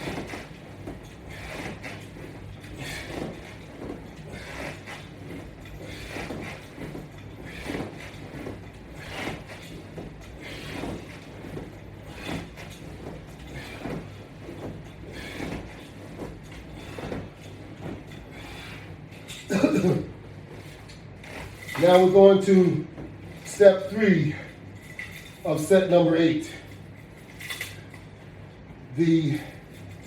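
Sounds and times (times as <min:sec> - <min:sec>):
rustle and creak of sit-ups on mat: 0:00.0 - 0:30.0
steady low hum: 0:00.0 - 0:30.0.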